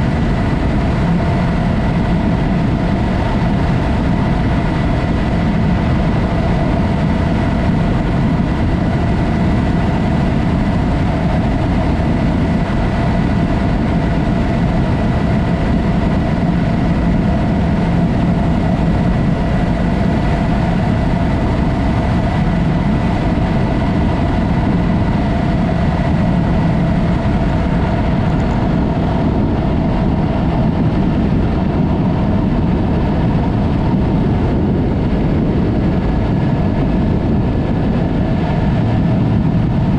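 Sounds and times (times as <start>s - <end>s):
dense low rumble: 0.0s - 39.9s
motorcycle engine running: 0.0s - 39.9s.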